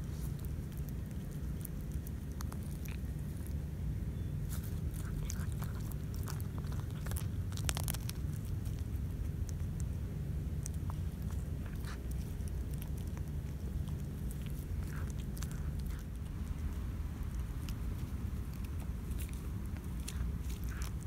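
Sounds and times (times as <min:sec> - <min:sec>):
cat chewing and biting: 0:00.0 - 0:21.0
steady low hum: 0:00.0 - 0:21.0
teeth clicking: 0:00.3 - 0:03.5, 0:04.7 - 0:21.0.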